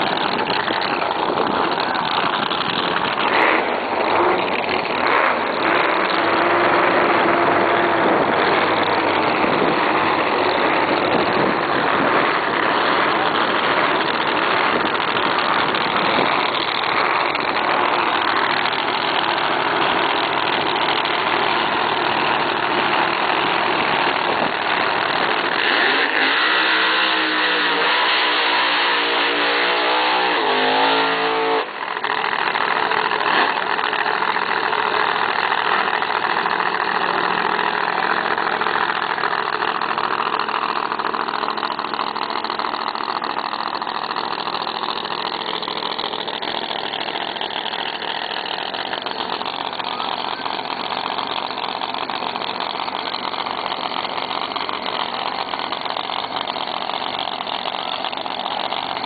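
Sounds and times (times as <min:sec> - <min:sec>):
drag racing car engines: 0:00.0 - 0:59.0
engine accelerating: 0:00.0 - 0:59.0.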